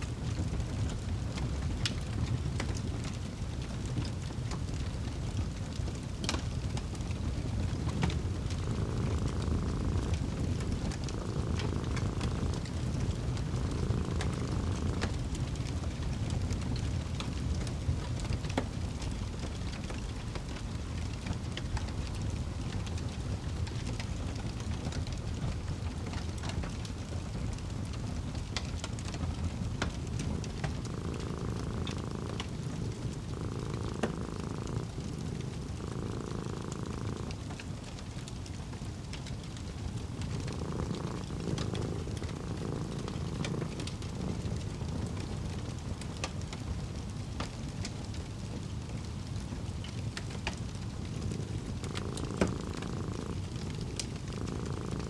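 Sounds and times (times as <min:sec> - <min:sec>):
cat purring: 0:00.0 - 0:55.0
fireplace crackling: 0:00.0 - 0:55.0
low rumble of fire: 0:00.0 - 0:55.0.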